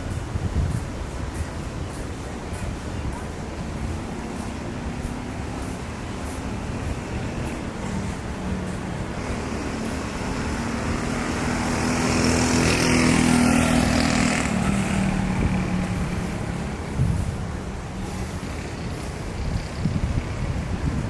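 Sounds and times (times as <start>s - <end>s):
vehicle engine passing by: 4.1s - 21.0s.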